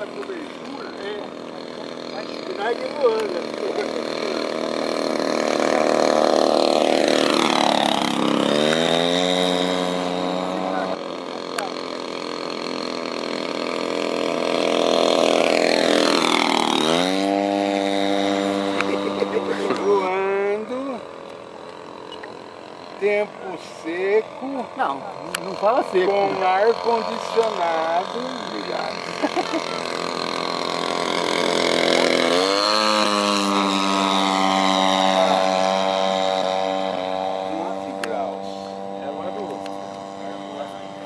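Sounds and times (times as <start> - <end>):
model plane engine flying past: 0.0 - 41.0.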